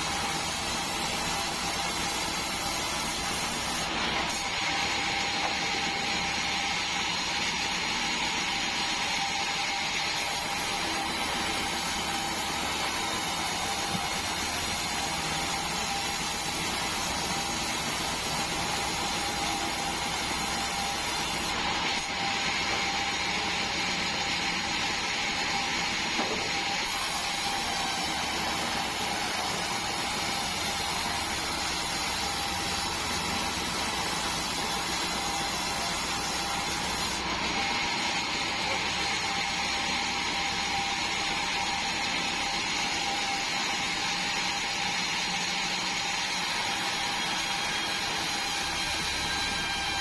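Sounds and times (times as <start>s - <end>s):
band saw whine and machine hum: 0.0s - 50.0s.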